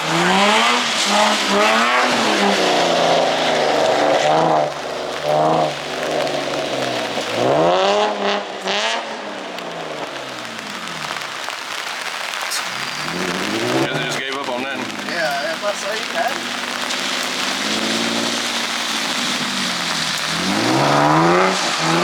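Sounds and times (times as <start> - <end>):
car engine revving hard: 0.0 - 11.7, 12.6 - 22.0.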